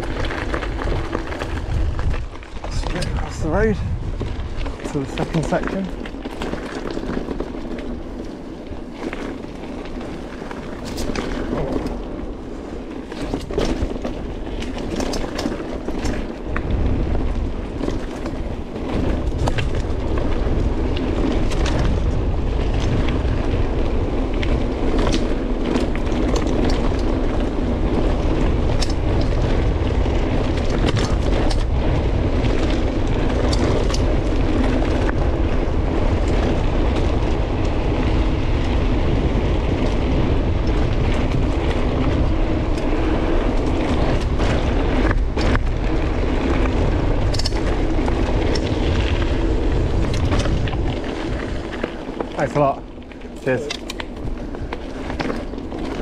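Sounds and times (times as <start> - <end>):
bike rattling and clicking: 0.0 - 56.0
bike tyres rolling on dirt: 0.0 - 56.0
wind rumble on microphone: 0.0 - 56.0.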